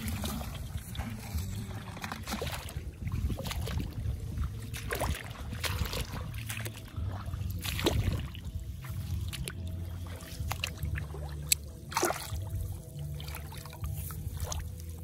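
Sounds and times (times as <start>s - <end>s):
light splashes in shallow water: 0.0s - 15.0s
low wind rumble on microphone: 0.0s - 15.0s
rustles in wet stubble: 0.0s - 15.0s.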